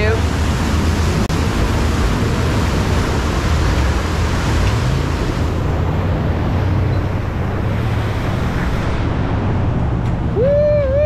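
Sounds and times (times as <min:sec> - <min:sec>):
river water rushing: 0:00.0 - 0:09.4
low engine rumble: 0:00.0 - 0:11.0
wind on microphone: 0:00.0 - 0:11.0.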